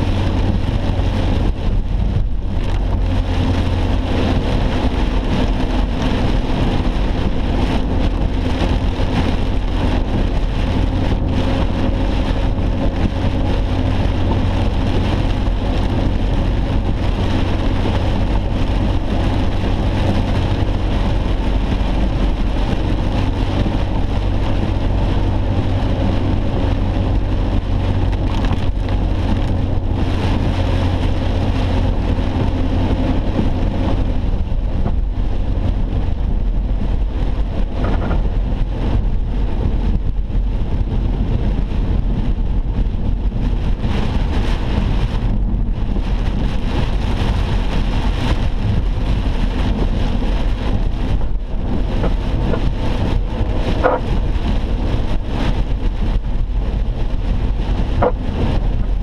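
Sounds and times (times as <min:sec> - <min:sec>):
heavy rain drumming on car: 0:00.0 - 0:59.0
road and engine rumble in car: 0:00.0 - 0:59.0.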